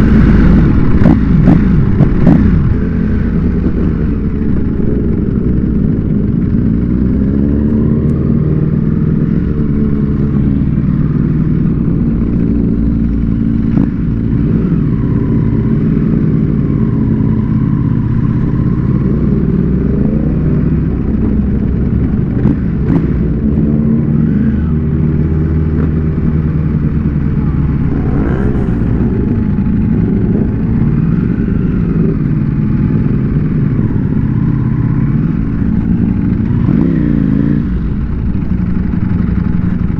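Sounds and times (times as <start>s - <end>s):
motorcycle engine accelerating: 0.0s - 39.9s
other motorcycles riding close: 0.0s - 39.9s.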